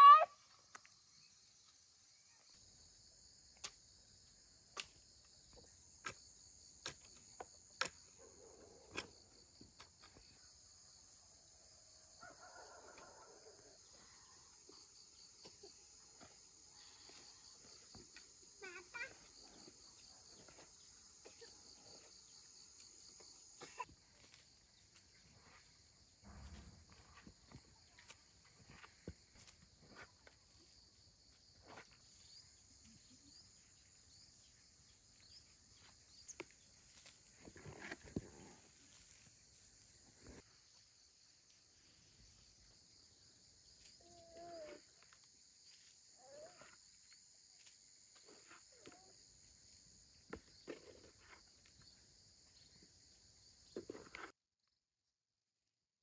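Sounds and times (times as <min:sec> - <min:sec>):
high-pitched insect chorus: 0:09.1 - 0:54.1.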